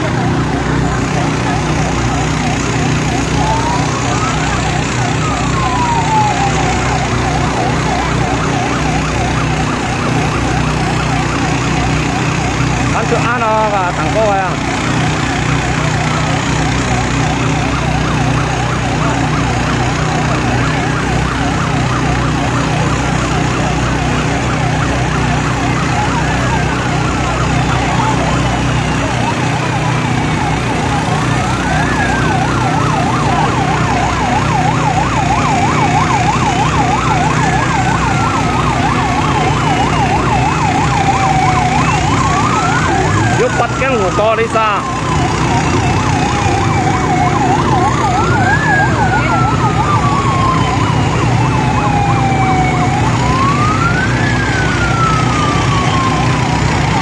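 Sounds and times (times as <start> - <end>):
engine hum: 0.0 - 57.0
siren wail: 0.0 - 57.0
siren yelp: 0.0 - 57.0.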